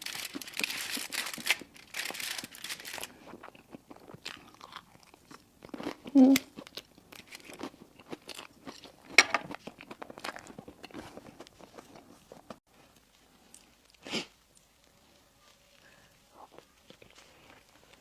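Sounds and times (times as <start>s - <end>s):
crunching crispy food: 0.0s - 18.0s.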